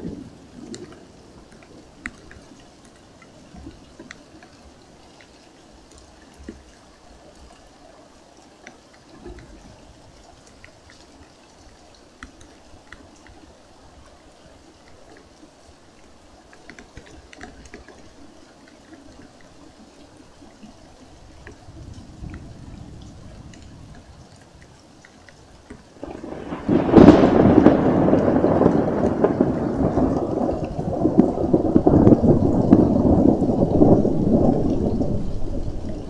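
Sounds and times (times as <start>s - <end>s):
steady rain falling: 0.0s - 36.0s
water dripping: 0.0s - 36.0s.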